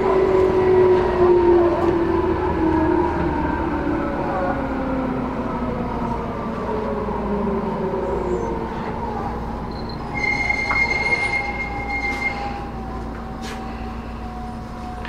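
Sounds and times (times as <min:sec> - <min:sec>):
electric train rumbling with whine: 0:00.0 - 0:15.0.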